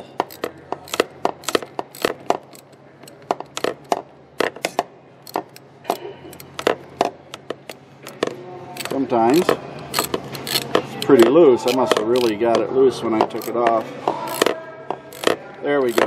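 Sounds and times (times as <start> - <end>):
hand ratchet clicking: 0.0 - 6.8, 7.6 - 12.6, 13.2 - 16.0.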